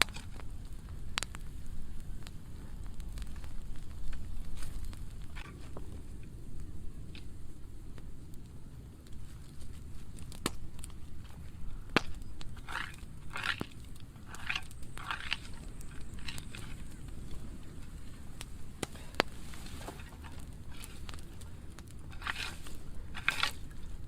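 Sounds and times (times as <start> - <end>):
fire crackling pops: 0.0 - 24.0
fire low rumble: 0.0 - 24.0.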